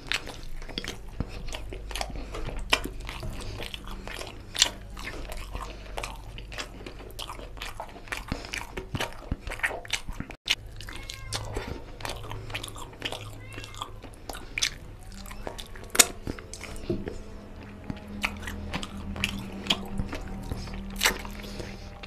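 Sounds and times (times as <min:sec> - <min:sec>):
lip smacks: 0:00.0 - 0:22.0
wet chewing: 0:00.0 - 0:22.0.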